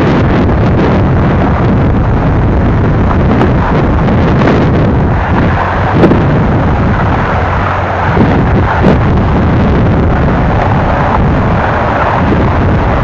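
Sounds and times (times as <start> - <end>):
freight train rolling: 0.0 - 13.0
wind buffeting the microphone: 0.0 - 13.0.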